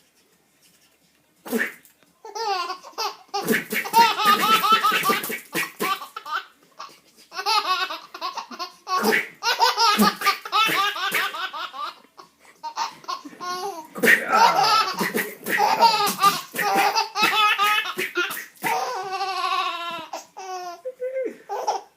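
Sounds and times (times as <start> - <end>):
baby laughing: 1.5 - 21.9.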